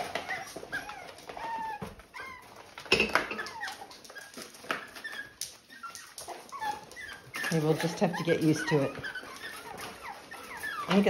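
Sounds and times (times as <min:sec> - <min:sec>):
puppies whining and whimpering: 0:00.0 - 0:11.0.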